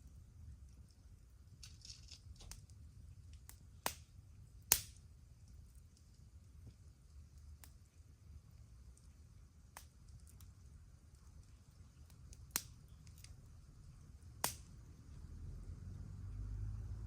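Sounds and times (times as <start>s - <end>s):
campfire crackling and popping: 0.0s - 15.3s
faint low rumble: 0.0s - 17.0s.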